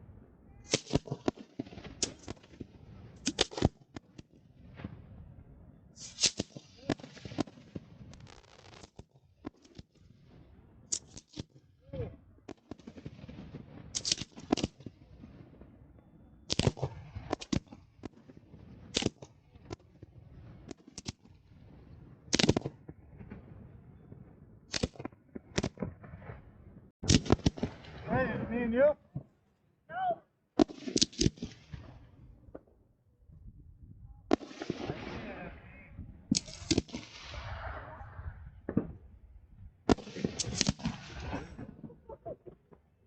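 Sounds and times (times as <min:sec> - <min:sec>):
fireworks crackling: 0:00.5 - 0:29.3, 0:30.6 - 0:32.7, 0:34.3 - 0:39.0, 0:39.8 - 0:43.0
firework bangs: 0:00.6 - 0:29.3, 0:30.6 - 0:32.7, 0:34.3 - 0:39.2, 0:39.8 - 0:43.0.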